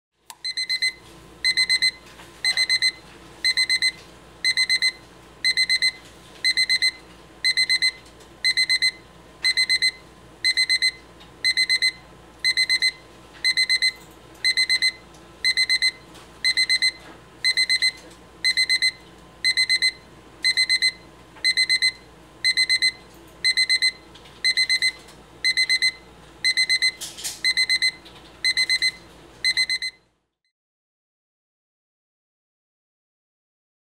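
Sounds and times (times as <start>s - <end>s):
alarm clock beeping: 0.4s - 30.0s.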